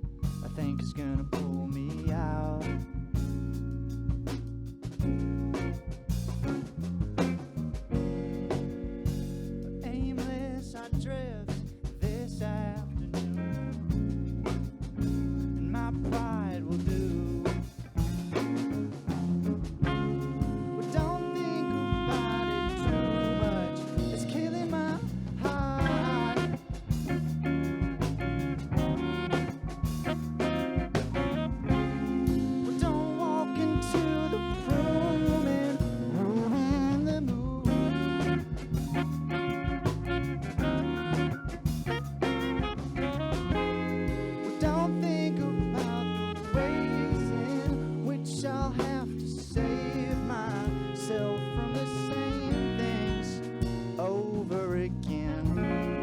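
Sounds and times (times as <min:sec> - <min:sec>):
saxophone melody: 0:00.0 - 0:10.3, 0:11.8 - 0:56.0
bass guitar: 0:00.0 - 0:56.0
drums: 0:00.0 - 0:56.0
electric guitar: 0:00.0 - 0:56.0
piano: 0:00.0 - 0:56.0.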